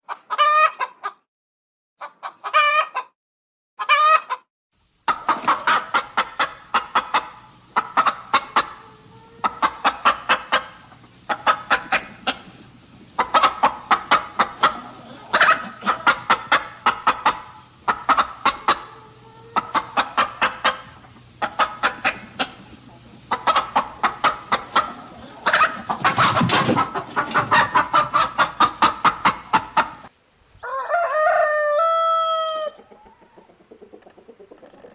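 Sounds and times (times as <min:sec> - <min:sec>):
chickens clucking: 0:00.1 - 0:01.3, 0:02.0 - 0:03.2, 0:03.8 - 0:04.4, 0:05.0 - 0:34.9.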